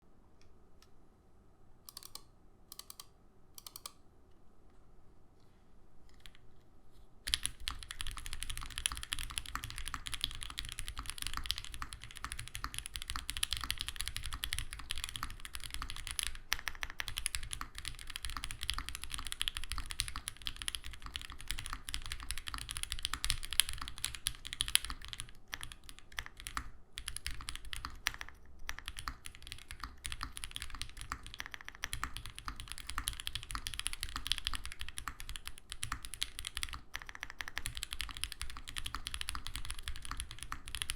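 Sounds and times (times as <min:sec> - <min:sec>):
fast typing on mechanical keyboard: 0:07.2 - 0:40.9.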